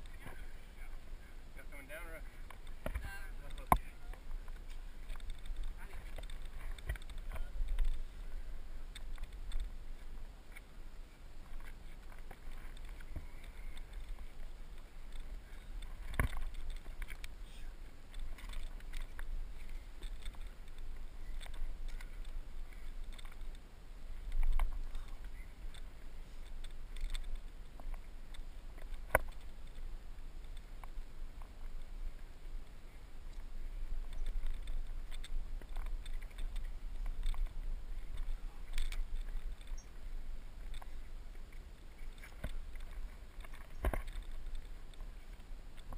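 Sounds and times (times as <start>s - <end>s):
footsteps on rocky trail: 0.0s - 45.9s
wind rumble on microphone: 0.0s - 45.9s.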